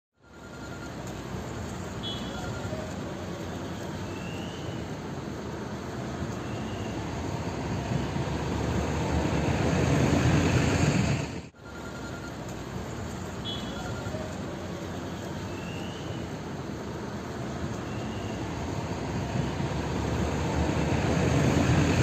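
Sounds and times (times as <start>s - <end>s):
large fire roaring: 1.4s - 11.5s, 14.0s - 22.0s.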